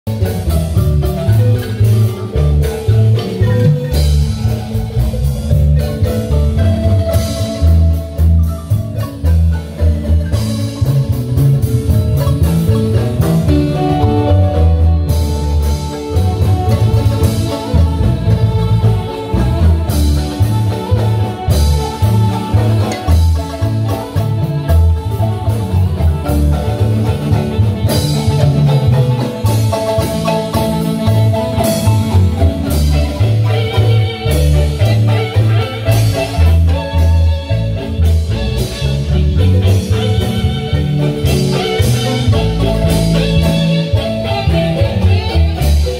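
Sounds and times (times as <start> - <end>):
bass line: 0.1 - 45.9
drum kit: 0.1 - 45.9
marimba playing: 0.1 - 45.9.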